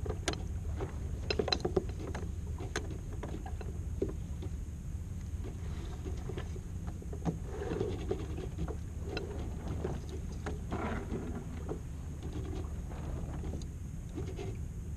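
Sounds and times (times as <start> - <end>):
ropes and deck gear clicking: 0.0 - 4.6, 5.4 - 14.6
light wind: 0.0 - 14.9
water rumbling around boat: 0.0 - 14.9.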